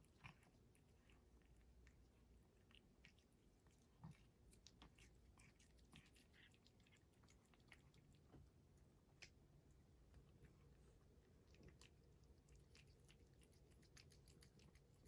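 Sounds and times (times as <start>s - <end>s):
cat chewing food: 0.0s - 15.0s.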